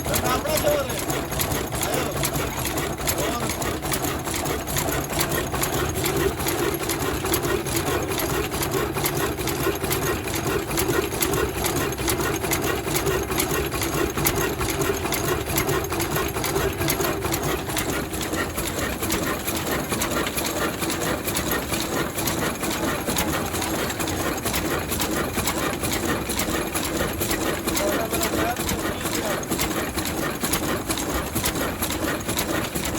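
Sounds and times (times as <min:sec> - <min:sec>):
diesel engine clattering: 0:00.0 - 0:32.9.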